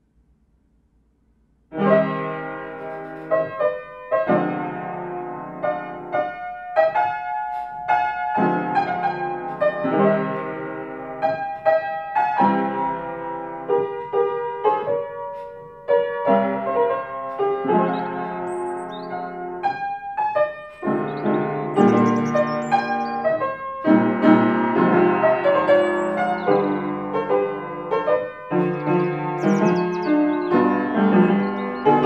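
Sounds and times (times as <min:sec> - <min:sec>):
piano music: 0:01.7 - 0:32.0.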